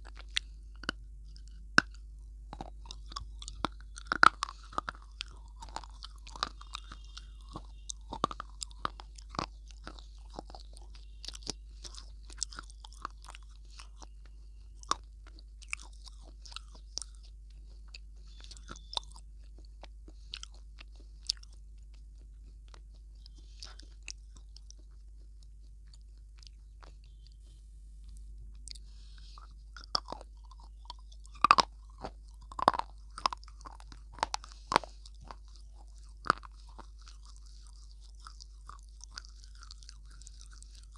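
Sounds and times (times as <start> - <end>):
crunchy biting and chewing: 0.0 - 40.9.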